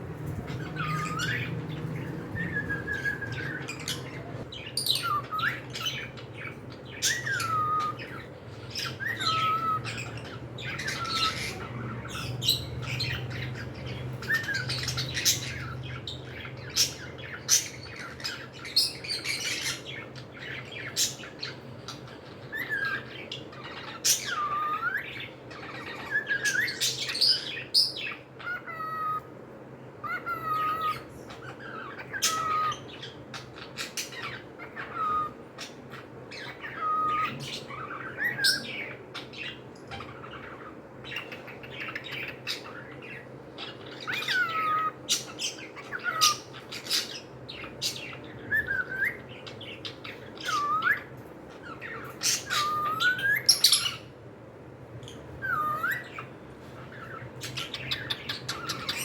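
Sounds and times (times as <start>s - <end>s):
cockatiels chirping and squawking: 0.0s - 29.4s, 30.0s - 54.2s, 54.9s - 59.0s
faint low hum: 0.0s - 59.0s.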